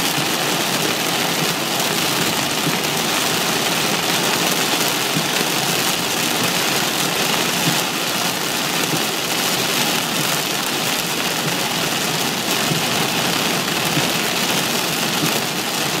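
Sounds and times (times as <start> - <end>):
heavy rain on car roof: 0.0 - 16.0
tyres on flooded road: 0.0 - 16.0.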